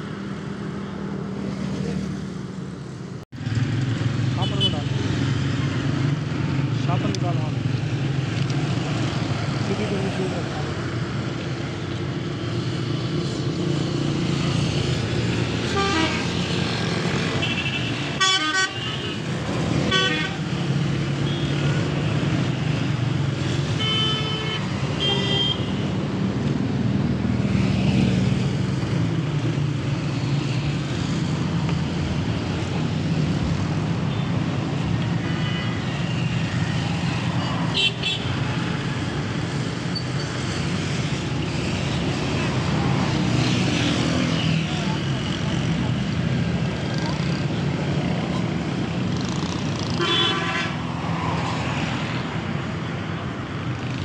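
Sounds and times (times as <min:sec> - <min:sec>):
vehicle engines droning: 0:00.0 - 0:18.5, 0:19.1 - 0:54.0.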